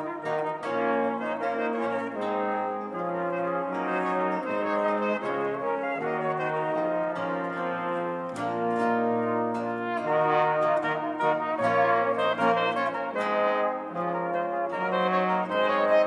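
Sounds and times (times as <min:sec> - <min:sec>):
brass ensemble playing: 0:00.0 - 0:16.0
lute: 0:00.0 - 0:16.0.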